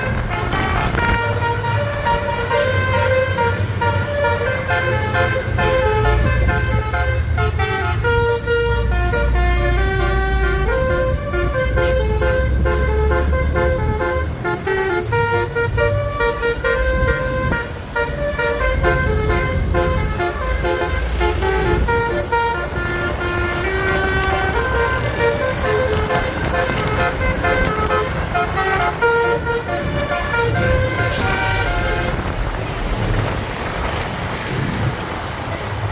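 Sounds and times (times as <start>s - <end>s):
multi-tone bus horn tune: 0.0s - 33.1s
bus engine rumble: 0.0s - 35.9s
road noise: 0.0s - 35.9s.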